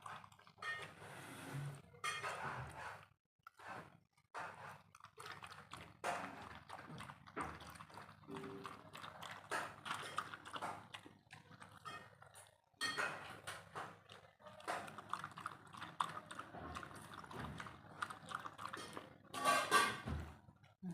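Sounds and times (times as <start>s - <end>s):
dog lapping from bowl: 0.0s - 20.4s.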